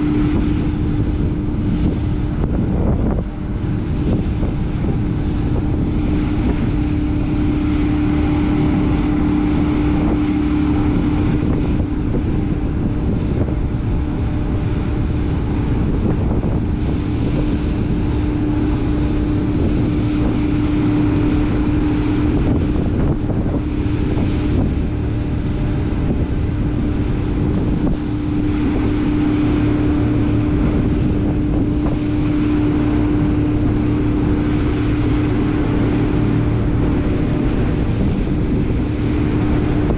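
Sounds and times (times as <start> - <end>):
ferry engines running: 0.0 - 39.9
wind buffeting microphone: 0.0 - 39.9.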